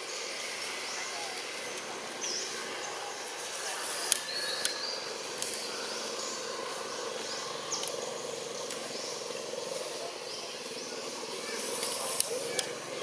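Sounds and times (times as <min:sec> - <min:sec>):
buzzing drone: 0:00.0 - 0:13.0.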